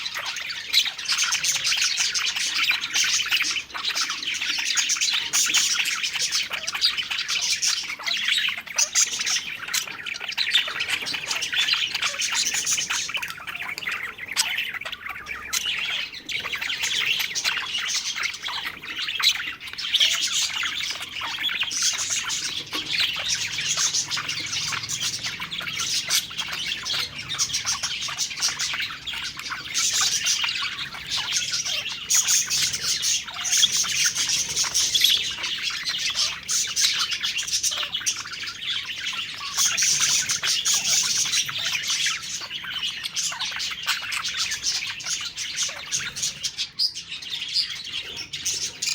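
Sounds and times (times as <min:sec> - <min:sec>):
budgerigars chirping: 0:00.0 - 0:48.9.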